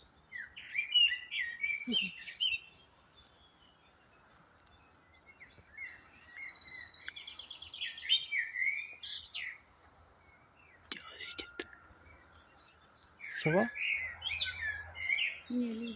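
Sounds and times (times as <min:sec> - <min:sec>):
songbird singing: 0:00.0 - 0:15.9.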